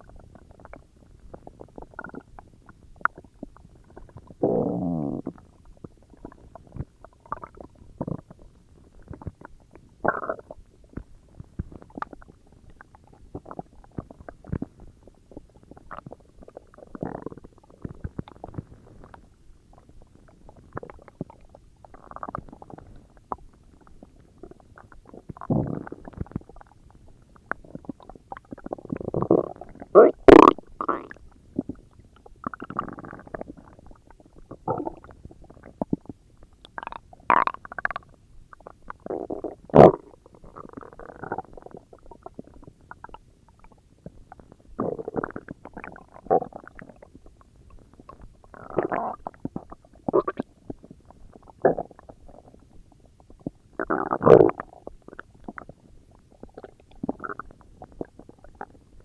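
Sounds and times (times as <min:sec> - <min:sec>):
stomach growling and gurgling: 0:00.0 - 0:59.0.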